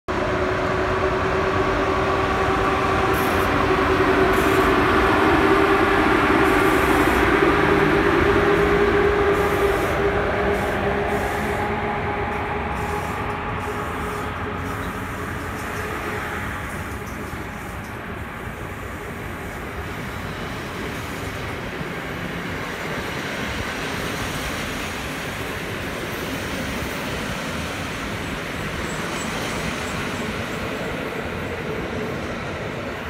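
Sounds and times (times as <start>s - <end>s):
electric locomotive humming: 0.1s - 33.0s
rumble of moving train: 0.1s - 33.0s.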